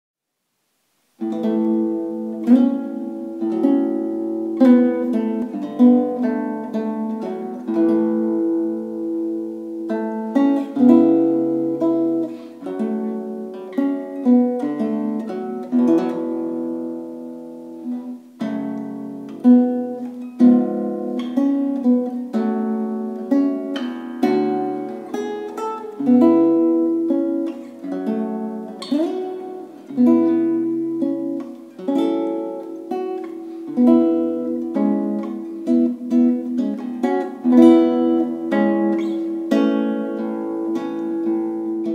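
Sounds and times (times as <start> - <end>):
acoustic guitar plucked notes: 1.1 - 41.9.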